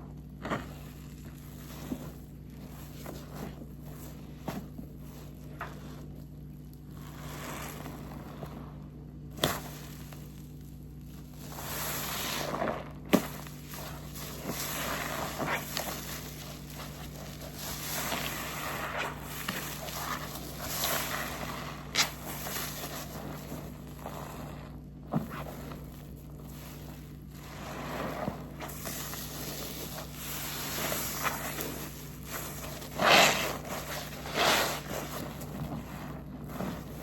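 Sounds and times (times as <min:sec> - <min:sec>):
sponge squelching: 0:00.0 - 0:37.0.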